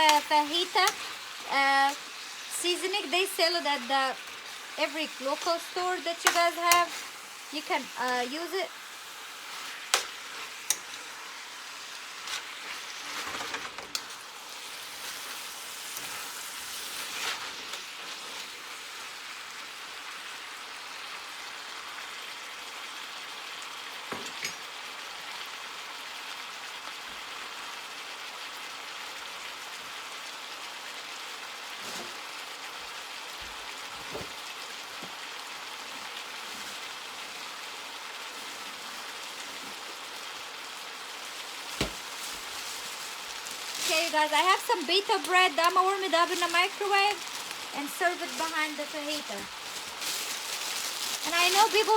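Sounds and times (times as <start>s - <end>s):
food sizzling in a frying pan: 0.0s - 51.9s.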